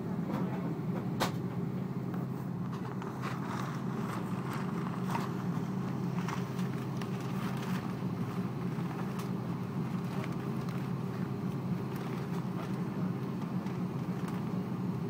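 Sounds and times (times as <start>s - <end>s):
jet engines idling hum: 0.0s - 15.0s.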